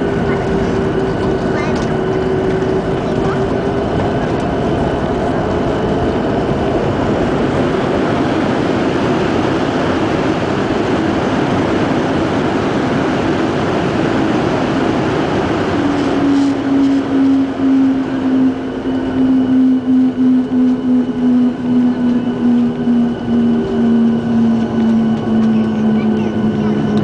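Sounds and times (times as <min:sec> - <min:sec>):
airliner engines roaring: 0:00.0 - 0:27.0.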